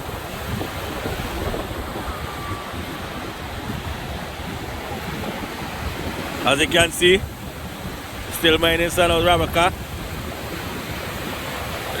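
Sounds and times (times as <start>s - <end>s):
floodwater rushing: 0.0s - 12.0s
wind buffeting microphone: 0.0s - 12.0s.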